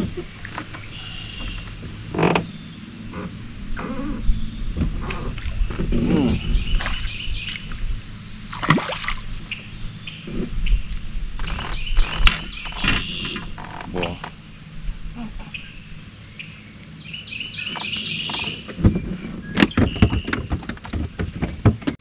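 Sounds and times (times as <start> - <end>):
small birds chirping: 0.2 - 21.9.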